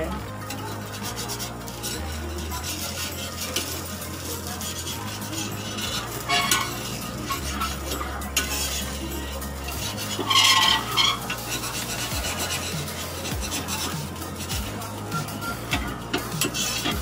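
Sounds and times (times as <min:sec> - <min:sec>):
batter sizzling in oil: 0:00.0 - 0:17.0
metal spatula scraping: 0:00.1 - 0:17.0.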